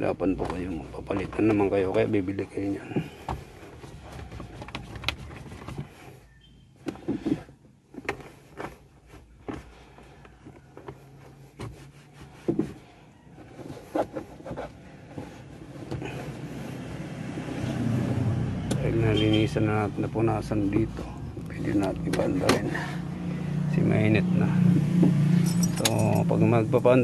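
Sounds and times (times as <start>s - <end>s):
cloth wiping plastic dashboard: 0.0s - 25.3s.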